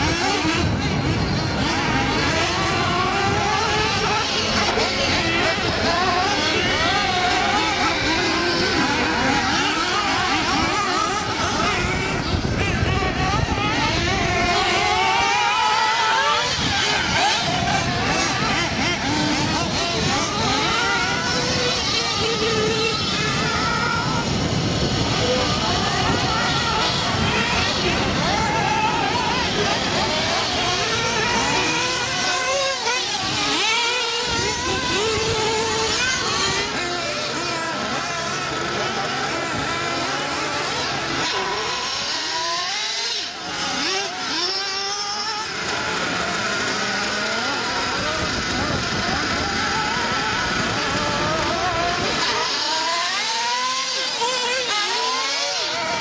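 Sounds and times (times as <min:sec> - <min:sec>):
rc buggy engines revving: 0:00.0 - 0:56.0.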